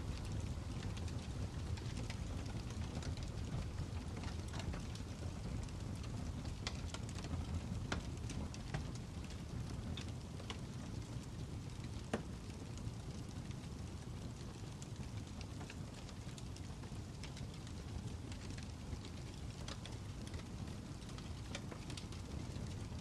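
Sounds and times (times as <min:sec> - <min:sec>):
fire popping and snapping: 0:00.0 - 0:23.0
wood fire crackling: 0:00.0 - 0:23.0.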